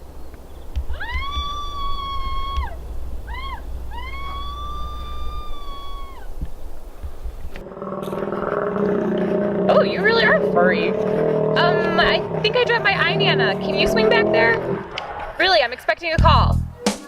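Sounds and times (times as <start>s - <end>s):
high howl-like calls: 0.0s - 6.8s, 7.6s - 15.6s
low rumble: 0.0s - 15.6s.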